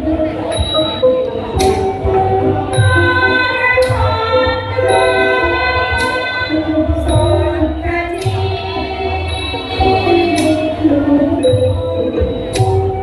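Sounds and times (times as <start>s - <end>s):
traditional ensemble sustained notes: 0.0s - 13.0s.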